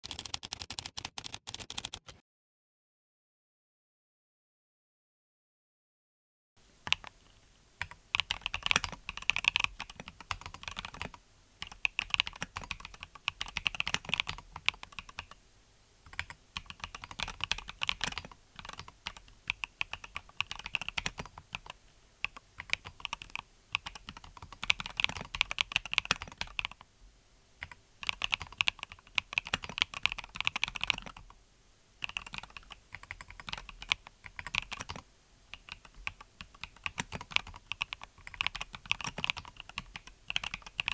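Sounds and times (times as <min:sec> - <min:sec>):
mechanical keyboard typing: 0:00.0 - 0:02.2, 0:07.8 - 0:15.4, 0:16.1 - 0:26.8, 0:27.6 - 0:31.4, 0:32.0 - 0:40.9.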